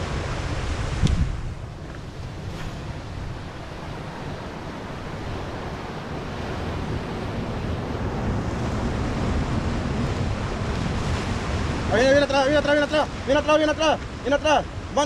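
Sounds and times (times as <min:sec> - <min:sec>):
surf breaking on rocky shore: 0:00.0 - 0:15.0
wind buffeting microphone: 0:00.0 - 0:15.0.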